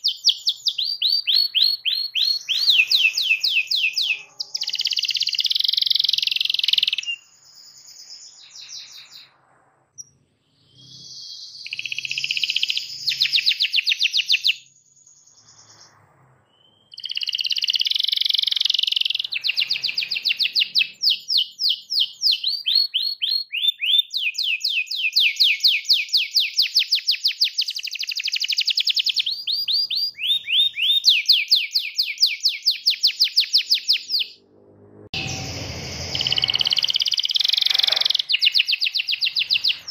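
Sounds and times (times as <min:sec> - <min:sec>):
canary singing: 0:00.0 - 0:09.3, 0:10.0 - 0:34.4, 0:35.1 - 0:39.9.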